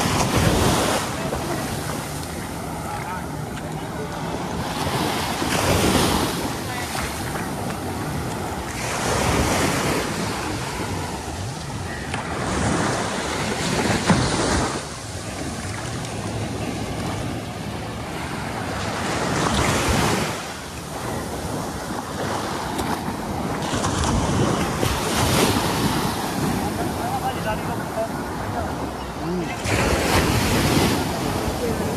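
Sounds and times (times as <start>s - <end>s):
waves breaking on beach: 0.0s - 31.9s.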